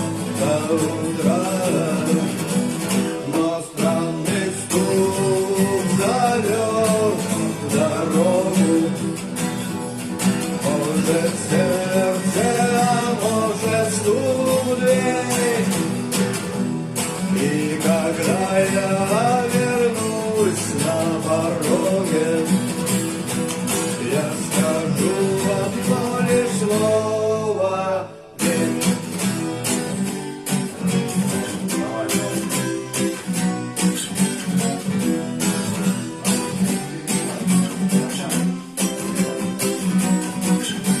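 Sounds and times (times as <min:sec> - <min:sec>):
person singing: 0:00.0 - 0:30.0, 0:31.0 - 0:41.0
acoustic guitar strumming: 0:00.0 - 0:41.0.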